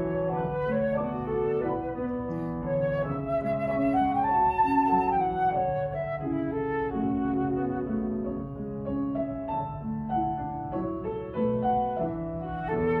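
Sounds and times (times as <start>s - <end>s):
flute melody: 0.0s - 13.0s
piano accompaniment: 0.0s - 13.0s.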